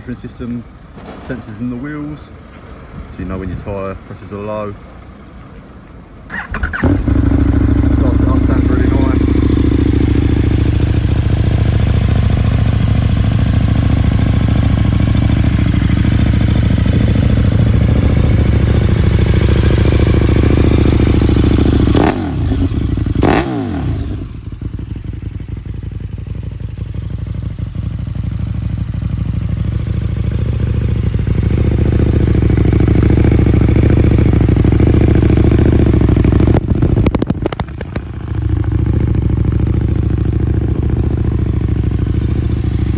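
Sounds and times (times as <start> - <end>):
motorcycle engine running: 6.3 - 42.9.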